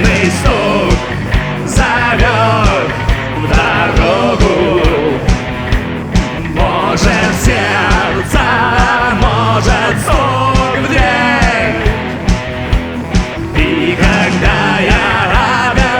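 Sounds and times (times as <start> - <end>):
rock music with singing: 0.0 - 15.9.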